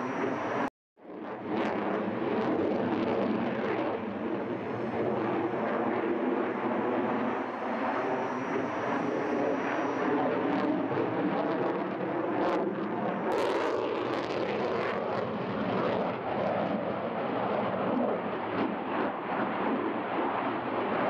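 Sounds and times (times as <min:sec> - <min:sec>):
fighter jet flying overhead: 0:00.0 - 0:21.0.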